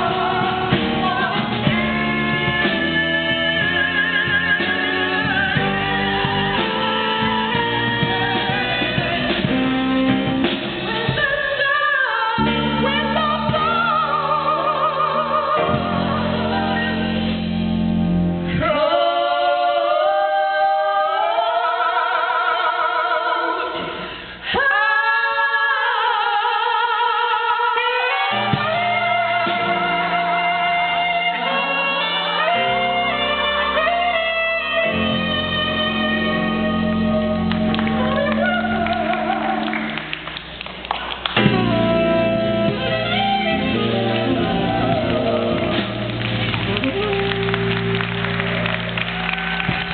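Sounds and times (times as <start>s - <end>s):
women singing blues: 0.0s - 10.0s, 10.8s - 17.1s, 18.5s - 40.1s, 41.4s - 47.2s
backing band playing: 0.0s - 19.9s, 28.1s - 49.9s.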